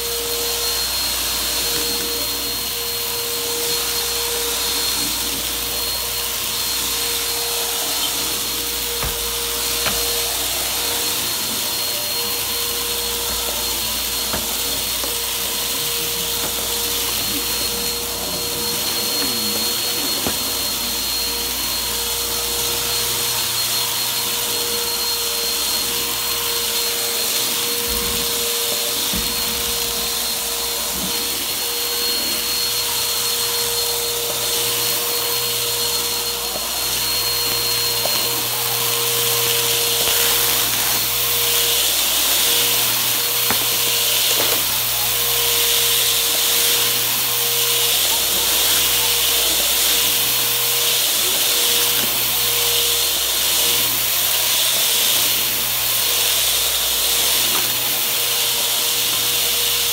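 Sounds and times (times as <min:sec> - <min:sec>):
vacuum cleaner on carpet: 0:00.0 - 0:59.9.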